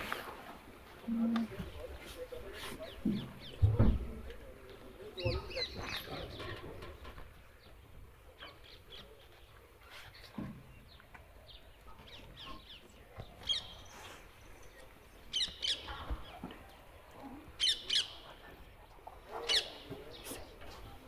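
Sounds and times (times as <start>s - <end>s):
low outdoor background: 0.0s - 21.0s.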